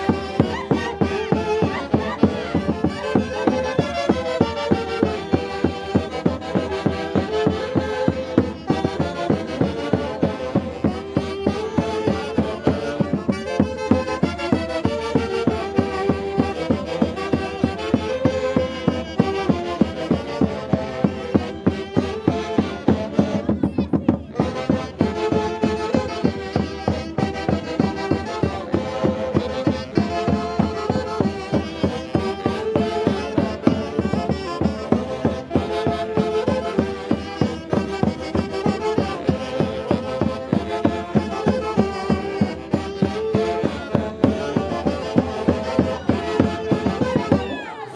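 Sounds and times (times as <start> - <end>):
saxophones playing melody: 0.0 - 23.7, 24.3 - 47.9.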